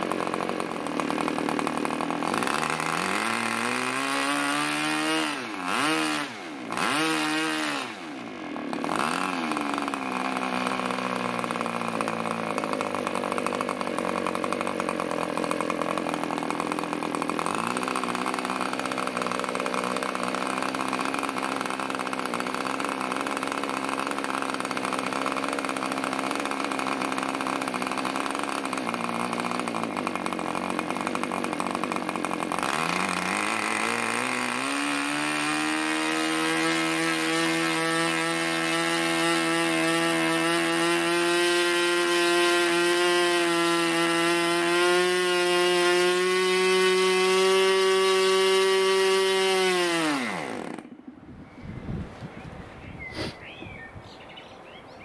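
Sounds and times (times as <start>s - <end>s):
model glow engine revving: 0.0s - 51.0s.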